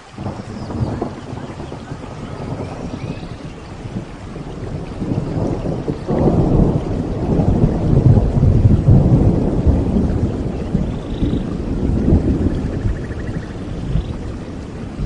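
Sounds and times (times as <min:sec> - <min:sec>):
rain: 0:00.0 - 0:15.0
rolling thunder rumble: 0:00.0 - 0:15.0.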